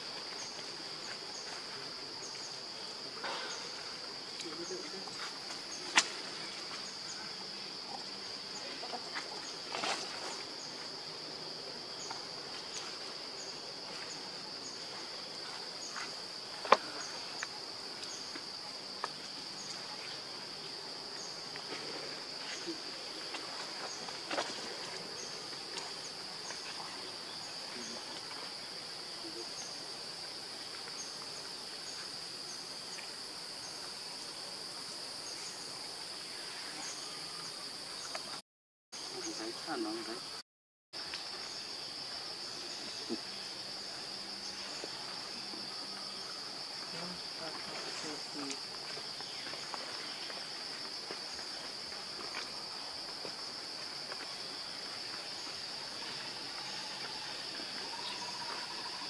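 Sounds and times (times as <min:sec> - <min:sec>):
insects droning: 0:00.0 - 0:38.4, 0:39.0 - 0:40.4, 0:41.0 - 0:59.0.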